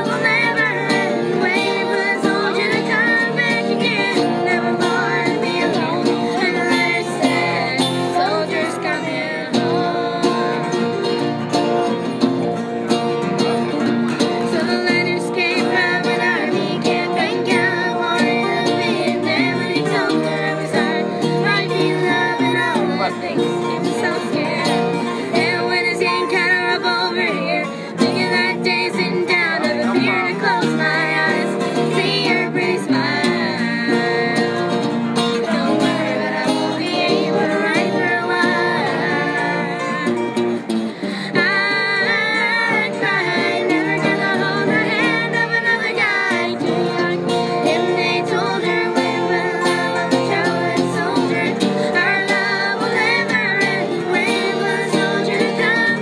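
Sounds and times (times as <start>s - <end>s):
acoustic guitars picked and strummed: 0.0s - 56.0s
person singing: 0.0s - 56.0s.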